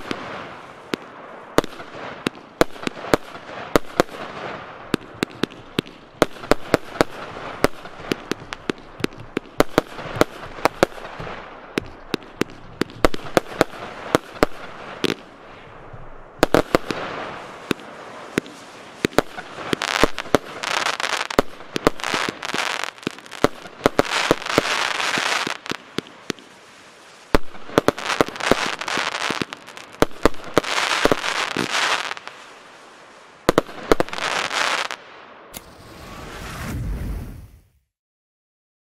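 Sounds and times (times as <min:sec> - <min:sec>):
firework crackle: 0:00.0 - 0:37.8
firework reports: 0:00.0 - 0:37.9.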